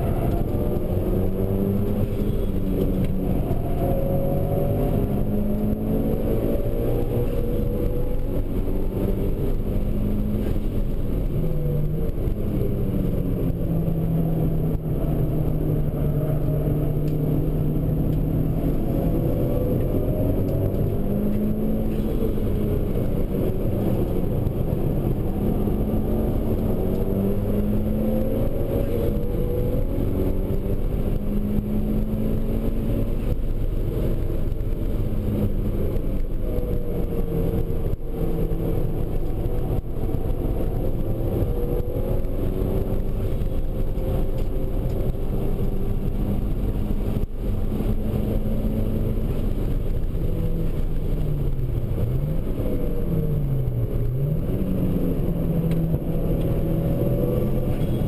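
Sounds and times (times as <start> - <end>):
road noise: 0.0 - 58.0
turbocharged car engine revving: 0.0 - 58.0.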